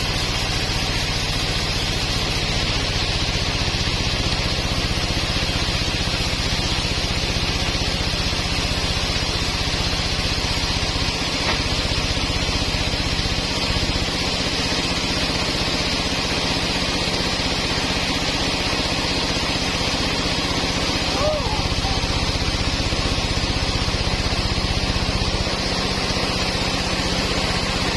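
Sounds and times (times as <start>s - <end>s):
sawmill engine running: 0.0s - 27.9s.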